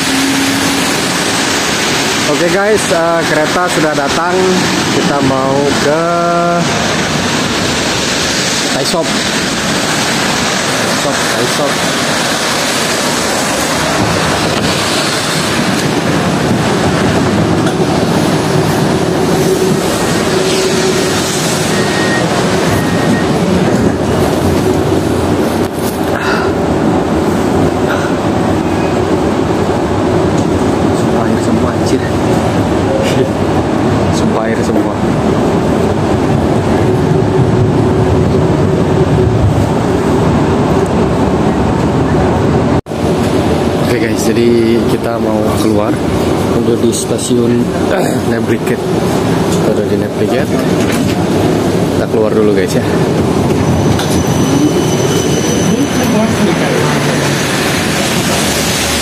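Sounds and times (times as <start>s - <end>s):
tram rumbling: 0.0s - 59.0s.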